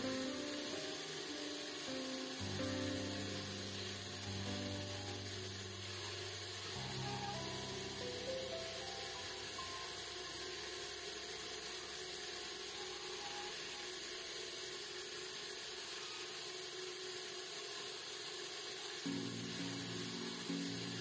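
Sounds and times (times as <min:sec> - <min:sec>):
wood lathe chisel cutting hiss: 0:00.0 - 0:21.0.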